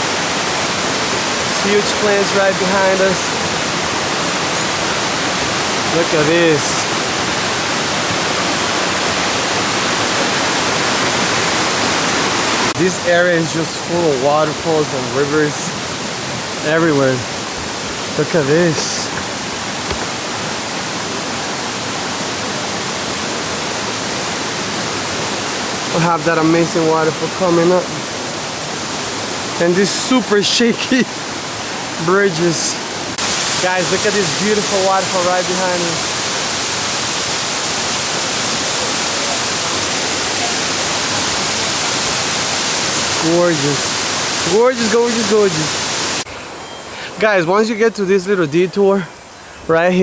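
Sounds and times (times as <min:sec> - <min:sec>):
waterfall and stream rushing: 0:00.0 - 0:49.0.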